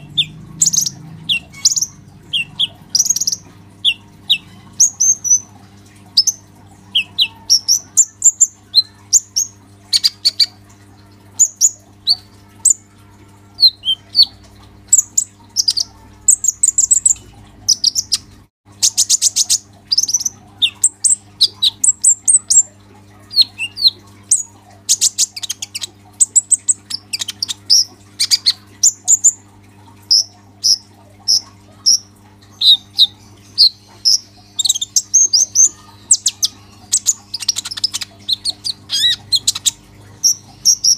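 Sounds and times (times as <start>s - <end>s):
bird singing high chirps and trills: 0.0s - 10.7s, 11.3s - 12.9s, 13.5s - 29.4s, 30.0s - 40.9s.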